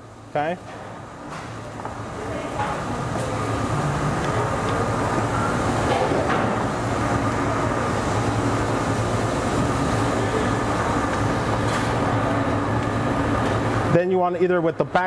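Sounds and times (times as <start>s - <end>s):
ventilation machinery humming: 0.0s - 15.0s.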